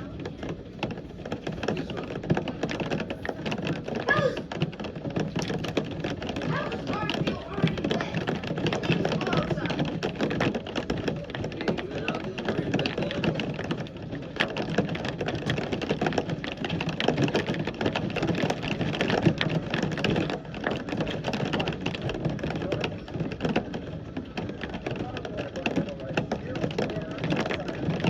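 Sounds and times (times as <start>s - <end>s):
heavy rain pattering: 0.0s - 28.0s.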